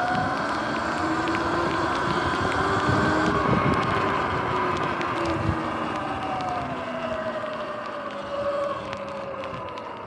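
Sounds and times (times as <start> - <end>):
wind and tyre noise: 0.0 - 10.0.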